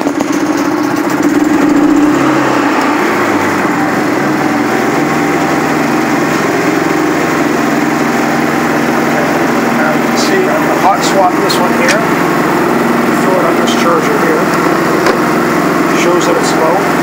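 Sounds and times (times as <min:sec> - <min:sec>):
portable generator running: 0:00.0 - 0:17.0.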